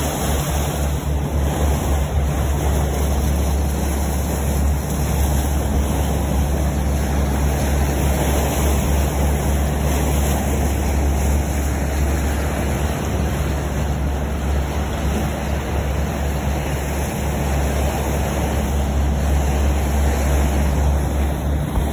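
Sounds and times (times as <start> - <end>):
boat engine running: 0.0 - 21.9
water rushing past hull: 0.0 - 21.9
wind: 0.0 - 21.9.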